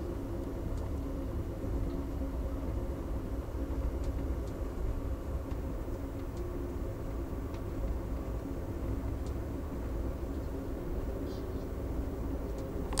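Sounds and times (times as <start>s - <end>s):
train rumbling inside car: 0.0s - 13.0s.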